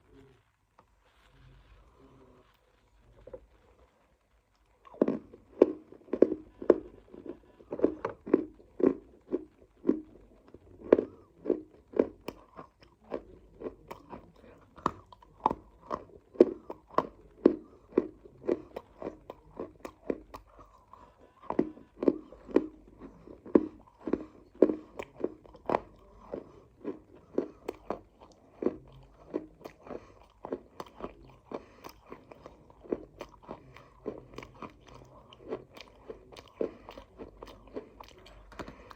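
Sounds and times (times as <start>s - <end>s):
person chewing crunchy clay: 4.6s - 38.9s.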